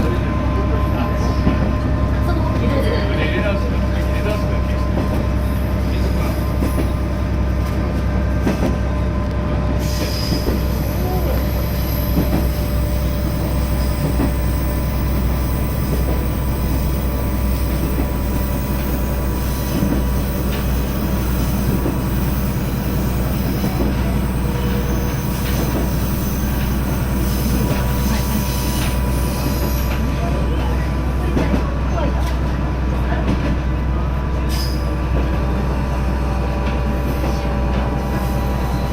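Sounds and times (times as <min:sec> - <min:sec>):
railcar engine and wheels rumbling: 0:00.0 - 0:38.9.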